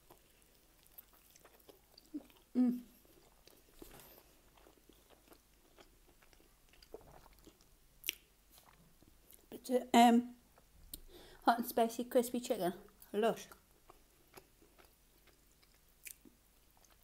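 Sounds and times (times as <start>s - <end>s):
person chewing food: 0.0s - 9.5s, 12.9s - 17.0s.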